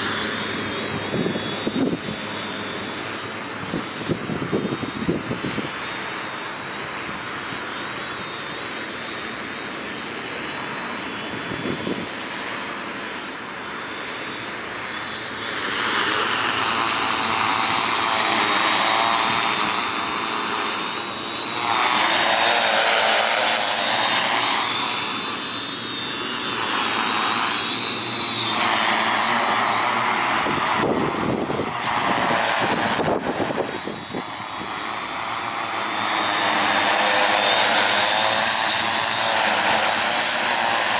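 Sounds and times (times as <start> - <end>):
drone motors whirring: 0.0 - 40.9.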